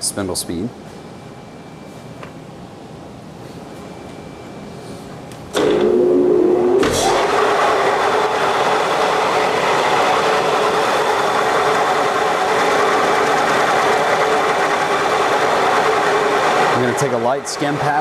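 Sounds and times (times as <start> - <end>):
lathe gearing whine: 1.0 - 18.0.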